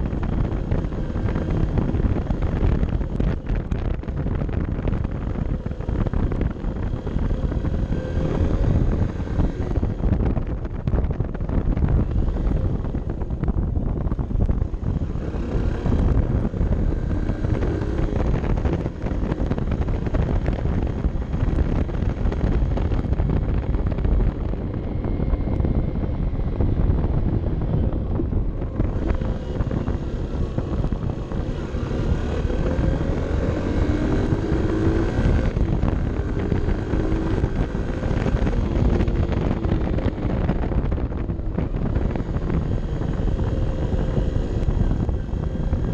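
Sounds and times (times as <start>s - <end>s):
motorcycle engine running: 0.0s - 45.9s
wind rumble on microphone: 0.0s - 45.9s.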